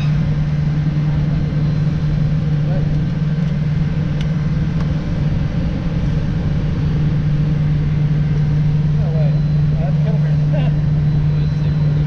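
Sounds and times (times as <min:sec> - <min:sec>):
heavy machinery drone: 0:00.0 - 0:12.0.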